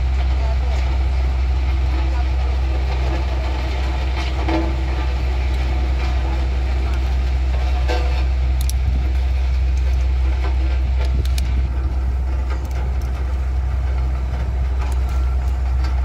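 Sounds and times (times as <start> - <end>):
road roller diesel engine humming: 0.0 - 16.0.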